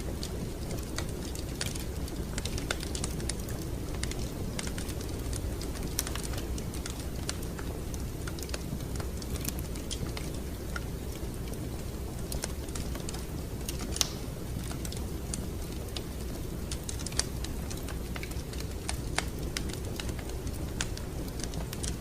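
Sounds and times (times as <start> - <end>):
fireplace fire crackling: 0.0 - 22.0.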